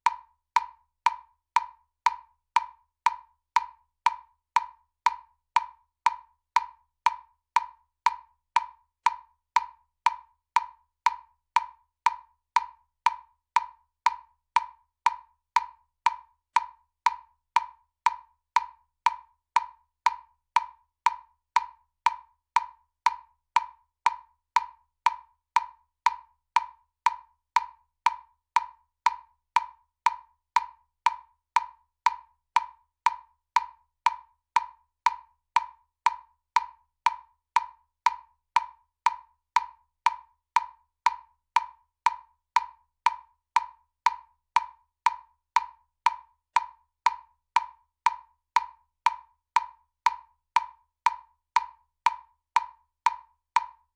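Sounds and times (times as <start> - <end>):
metronome ticking: 0.0 - 53.9.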